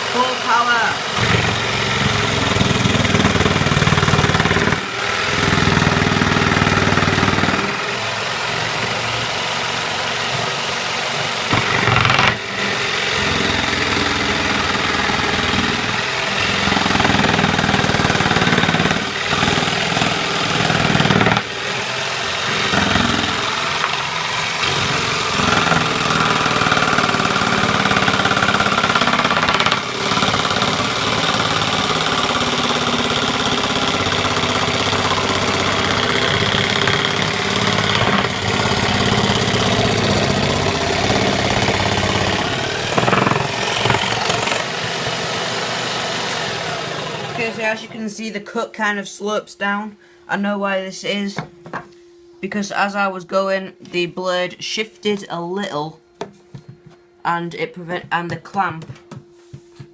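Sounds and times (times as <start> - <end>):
electric jigsaw cutting wood: 0.0 - 48.0.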